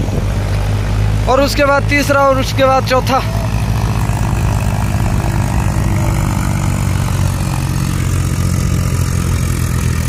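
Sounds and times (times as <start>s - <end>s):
tractor diesel engines droning: 0.0s - 10.0s.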